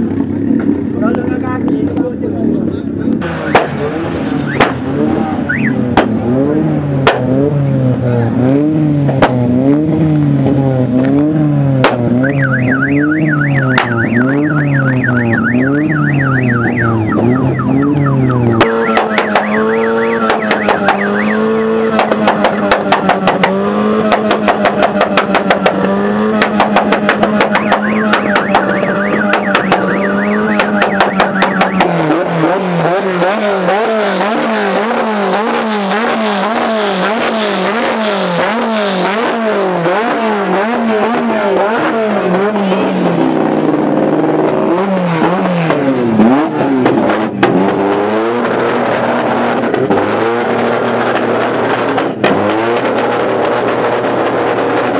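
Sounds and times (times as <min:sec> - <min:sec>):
car engine revving: 0:00.0 - 0:54.9
exhaust popping: 0:00.0 - 0:54.9.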